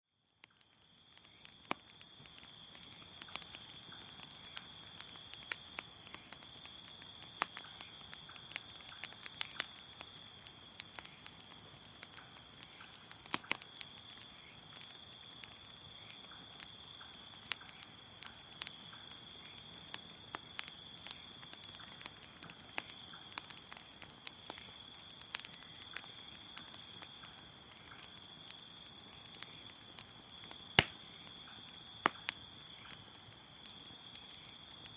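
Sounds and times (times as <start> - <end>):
bonfire crackling: 0.1 - 34.9
crickets chirping: 0.1 - 34.9.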